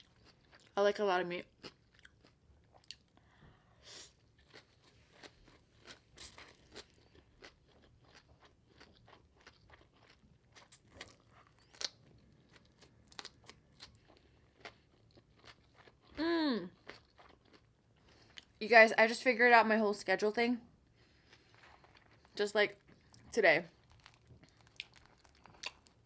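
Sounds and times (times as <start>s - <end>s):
chewing crunchy food: 0.0s - 0.8s, 1.4s - 3.3s, 4.0s - 18.6s, 21.0s - 26.0s.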